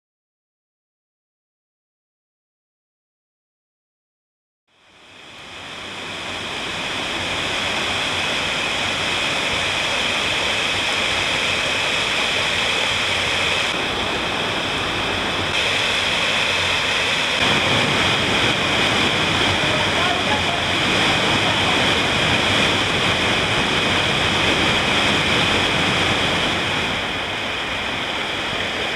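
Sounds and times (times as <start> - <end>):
stream rushing over rocks: 4.8 - 28.9.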